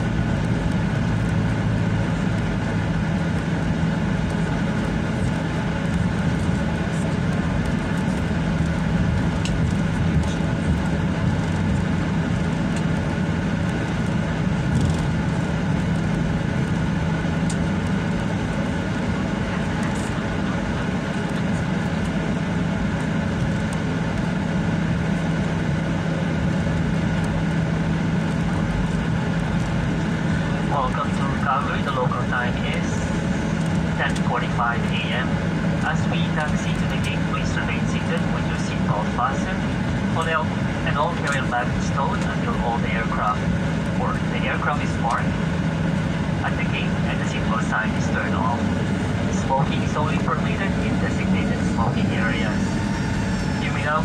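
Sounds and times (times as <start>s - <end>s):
airliner cabin rush of noise: 0.0s - 54.0s
jet engines idling hum: 0.0s - 54.0s.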